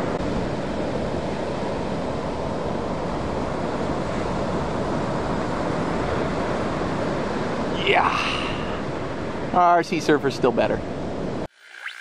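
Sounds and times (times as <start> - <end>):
ocean surf breaking: 0.0 - 11.5
wind rumbling on microphone: 0.0 - 11.5.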